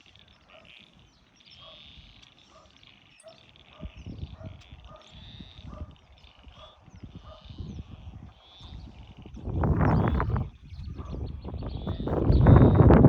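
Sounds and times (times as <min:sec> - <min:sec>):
high bird chirping: 0:00.0 - 0:13.0.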